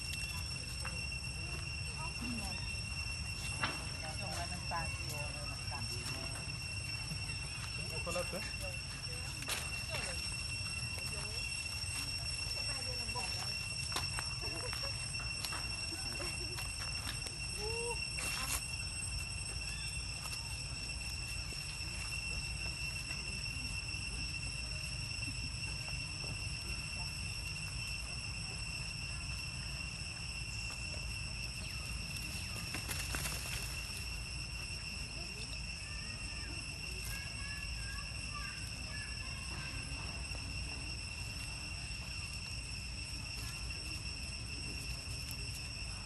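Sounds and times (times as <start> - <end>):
high-pitched insect drone: 0.0 - 46.0.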